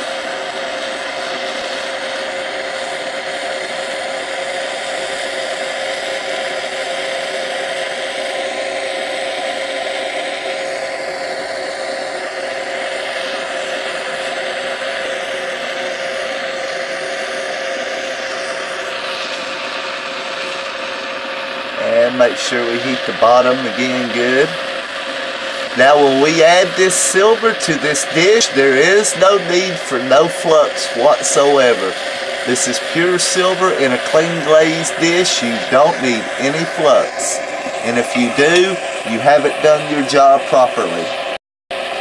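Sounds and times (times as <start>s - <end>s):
torch flame hissing: 0.0s - 42.0s.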